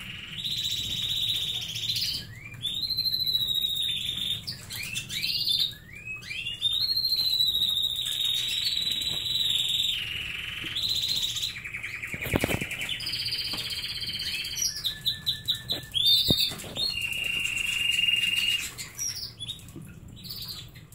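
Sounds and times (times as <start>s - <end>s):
canary singing trills: 0.0s - 20.8s.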